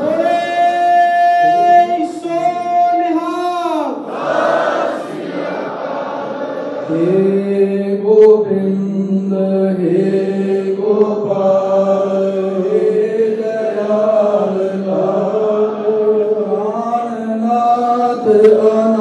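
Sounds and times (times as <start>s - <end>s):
slow devotional chanting: 0.0s - 19.0s.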